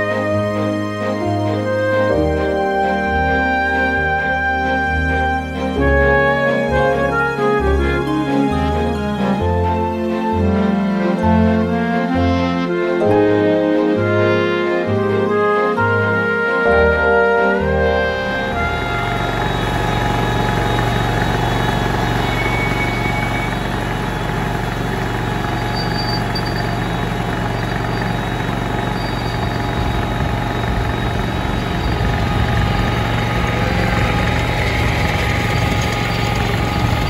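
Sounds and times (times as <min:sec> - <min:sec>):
miniature locomotive petrol engine: 0:00.0 - 0:13.9, 0:16.5 - 0:37.0.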